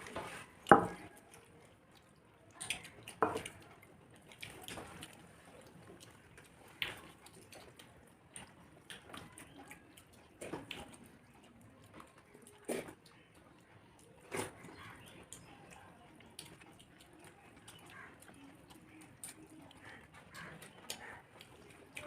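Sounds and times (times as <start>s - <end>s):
chewing and mouth smacks: 0.3s - 22.0s.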